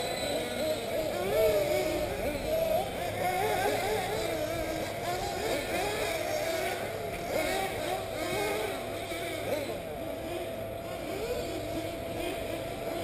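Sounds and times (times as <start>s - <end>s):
rc car engines whining: 0.0s - 13.0s.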